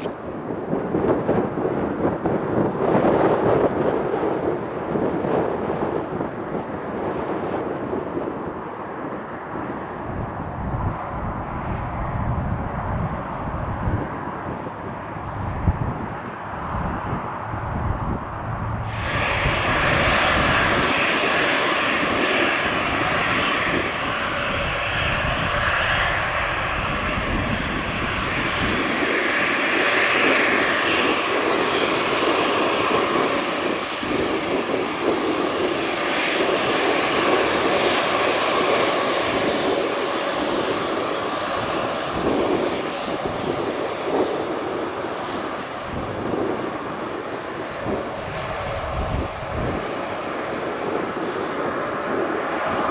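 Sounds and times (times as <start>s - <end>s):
aircraft engines running: 0.0s - 52.9s
wind rumbling on microphone: 0.0s - 52.9s.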